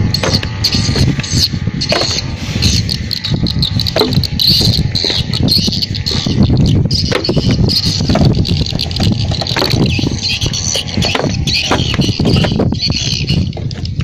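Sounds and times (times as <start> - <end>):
insects shrilling: 0.0 - 13.6
low rumble: 0.0 - 14.0.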